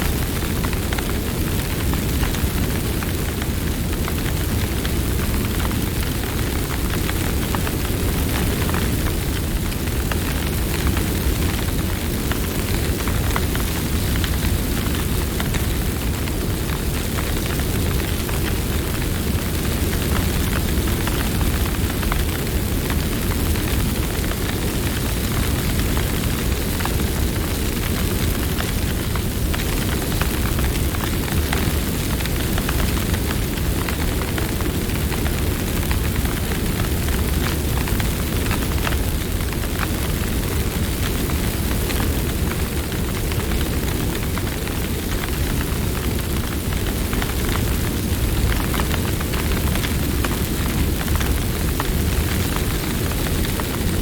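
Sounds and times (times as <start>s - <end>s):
campfire flames rushing: 0.0s - 54.0s
fire crackles and pops: 0.0s - 54.0s.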